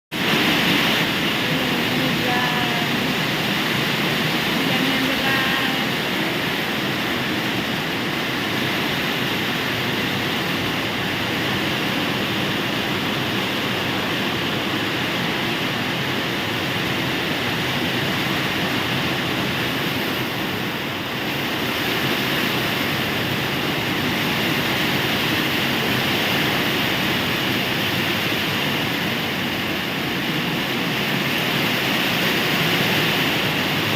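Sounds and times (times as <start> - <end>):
heavy rain pouring: 0.1 - 33.9
wind: 0.1 - 33.9.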